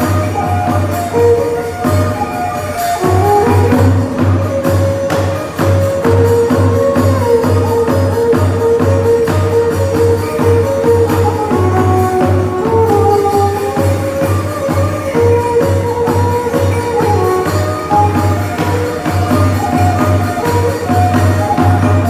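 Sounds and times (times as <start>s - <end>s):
bright metallic percussion strokes: 0.0s - 22.0s
pentatonic ensemble melody: 0.0s - 22.0s.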